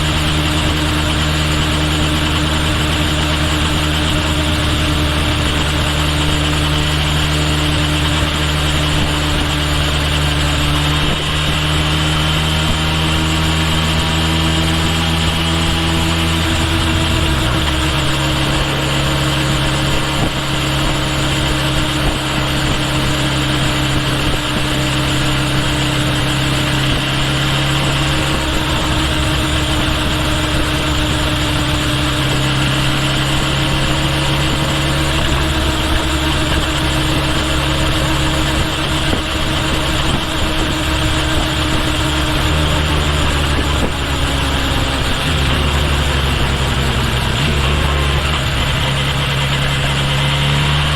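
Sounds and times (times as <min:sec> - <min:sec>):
motorcycle engine running steadily: 0:00.0 - 0:50.9.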